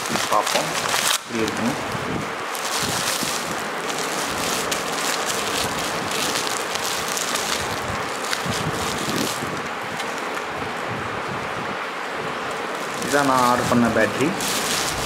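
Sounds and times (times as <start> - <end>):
bubble wrap crinkling: 0.0 - 10.5, 12.6 - 15.0.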